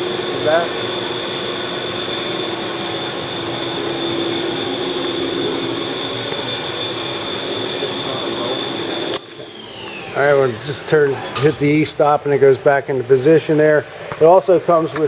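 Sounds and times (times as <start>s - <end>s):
milling machine drone and whine: 0.0s - 12.3s.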